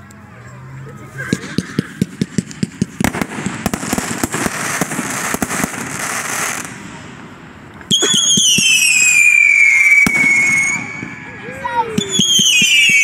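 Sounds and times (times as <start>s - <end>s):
fireworks bangs: 1.2s - 13.0s
fireworks crackling: 1.2s - 13.0s.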